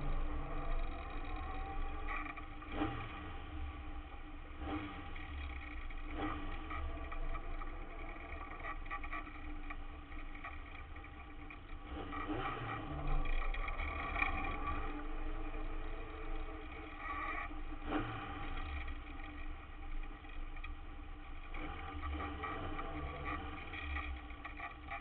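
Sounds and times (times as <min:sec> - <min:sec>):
race car engine at low revs: 0:00.0 - 0:25.0.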